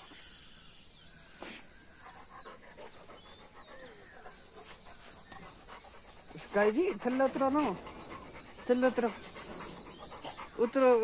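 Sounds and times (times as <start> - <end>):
dog panting: 1.8 - 11.0.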